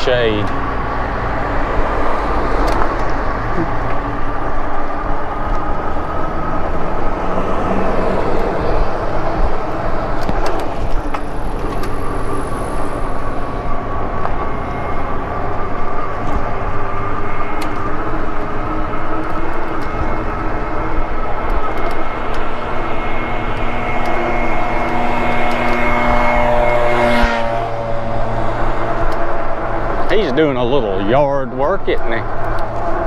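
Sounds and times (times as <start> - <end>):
hub motor whine: 0.0 - 33.0
wind and road noise: 0.0 - 33.0.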